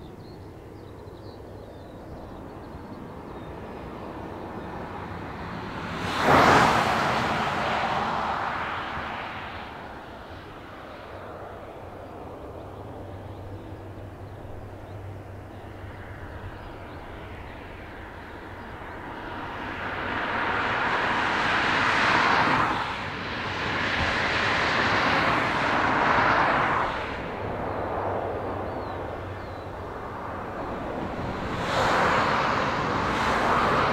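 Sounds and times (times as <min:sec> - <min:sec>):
jet aircraft rumble and hiss: 0:00.0 - 0:33.9.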